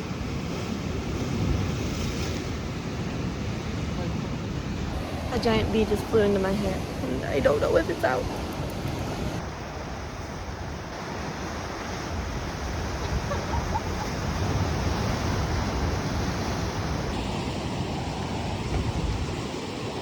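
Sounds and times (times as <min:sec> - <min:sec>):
sea waves against rocks: 0:00.0 - 0:20.0
wind buffeting microphone: 0:00.0 - 0:20.0.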